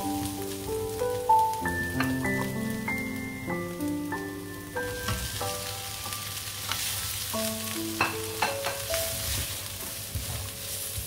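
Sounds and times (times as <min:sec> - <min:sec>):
beans sizzling in hot oil: 0:00.0 - 0:11.0.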